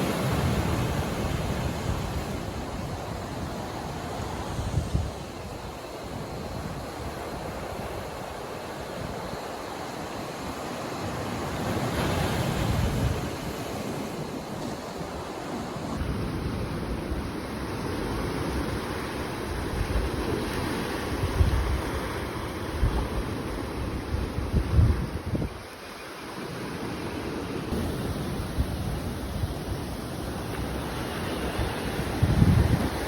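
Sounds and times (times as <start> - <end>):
wind buffeting microphone: 0.0 - 25.8, 27.7 - 33.0
surf washing onto beach: 0.0 - 33.0.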